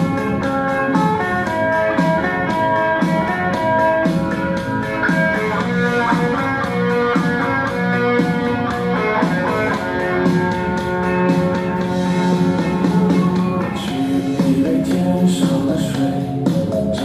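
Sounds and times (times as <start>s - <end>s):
drum kit beat: 0.0s - 17.0s
guitar lines: 0.0s - 17.0s.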